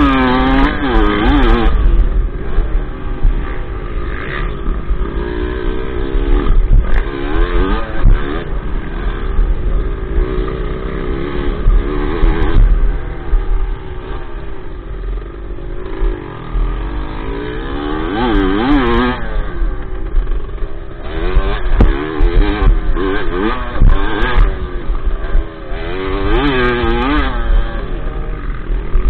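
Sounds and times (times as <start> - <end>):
wind rumble on microphone: 0.0 - 15.5, 18.6 - 29.0
dirt bike engine revving: 0.0 - 29.0.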